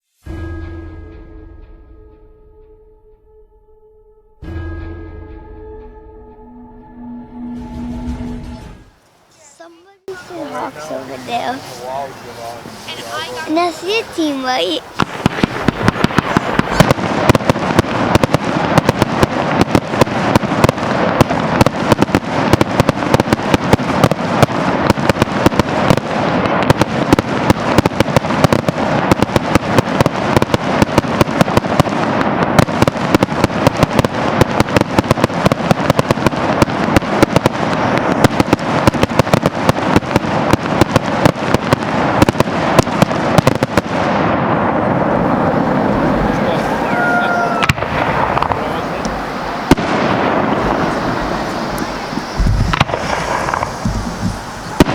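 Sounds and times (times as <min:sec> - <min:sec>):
fireworks crackling: 0:08.2 - 0:54.9.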